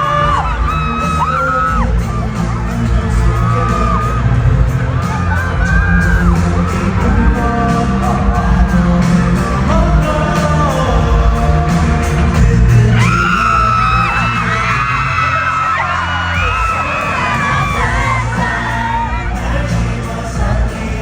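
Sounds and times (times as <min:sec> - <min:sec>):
fans screaming and whooping: 0:00.0 - 0:21.0
pop song with singing: 0:00.0 - 0:21.0.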